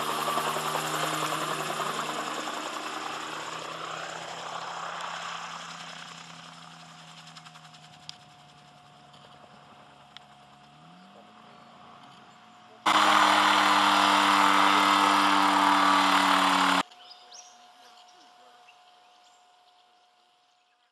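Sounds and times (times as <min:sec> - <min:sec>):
loud mechanical drone with hum: 0:00.0 - 0:16.8
distant gyrocopter engine: 0:00.0 - 0:20.8.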